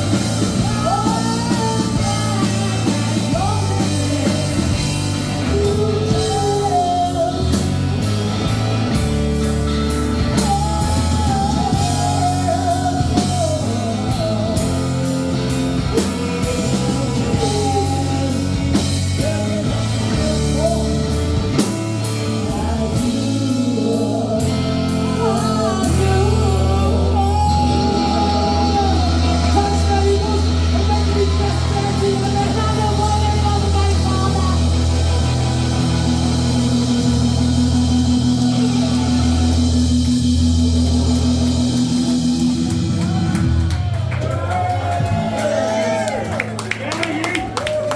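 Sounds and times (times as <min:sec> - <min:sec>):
person singing: 0:00.0 - 0:08.6, 0:09.4 - 0:46.2
drums: 0:00.0 - 0:47.9
guitar: 0:00.0 - 0:47.9.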